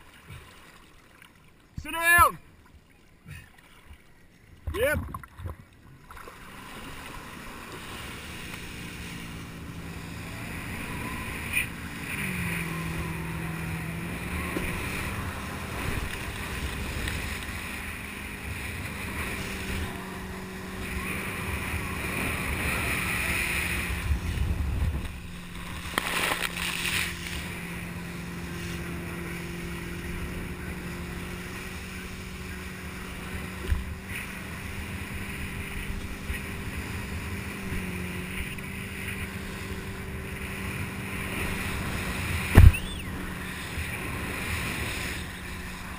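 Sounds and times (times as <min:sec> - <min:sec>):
motorboat engine droning: 0:00.0 - 0:45.9
rushing water: 0:00.0 - 0:45.9
wind: 0:00.0 - 0:45.9.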